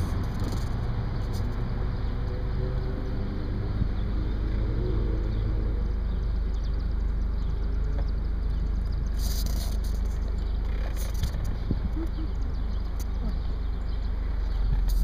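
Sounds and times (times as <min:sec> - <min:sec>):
car engine running: 0:00.0 - 0:15.0
road noise: 0:00.0 - 0:15.0
wind rumble: 0:00.0 - 0:15.0.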